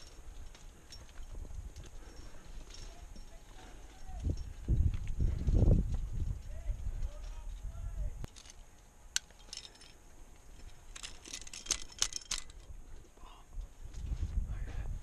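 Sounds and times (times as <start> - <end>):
metal climbing gear clinking: 0.0 - 7.6, 8.2 - 13.1.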